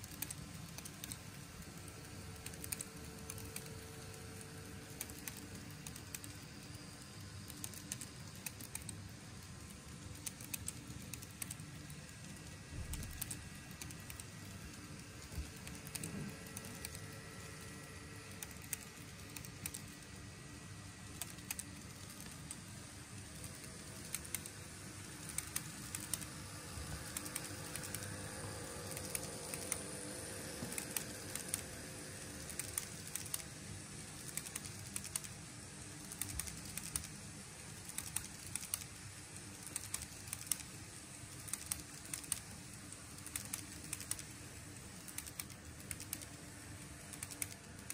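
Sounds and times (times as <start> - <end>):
faint steady hum: 0.0 - 47.9
model train wheels clicking: 0.0 - 47.9.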